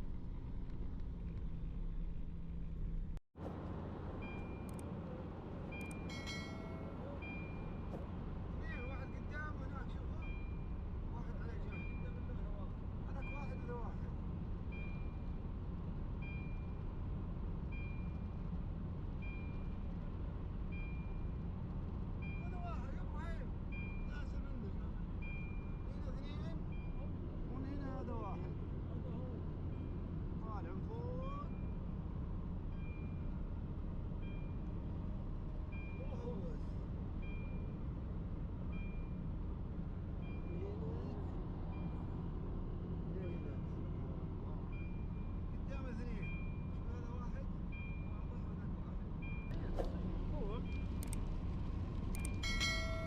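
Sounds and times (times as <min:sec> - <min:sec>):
vehicle rumbling on the move: 0:00.0 - 0:53.0.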